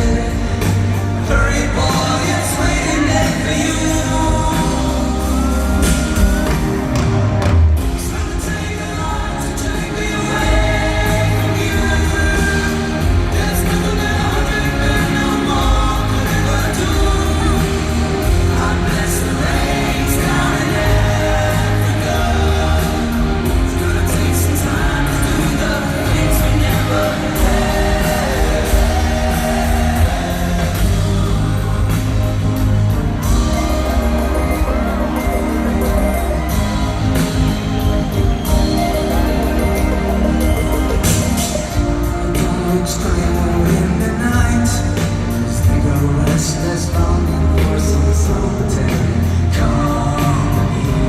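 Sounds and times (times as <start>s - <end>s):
live rock band playing: 0.0s - 51.0s
person singing lead vocal: 0.0s - 51.0s.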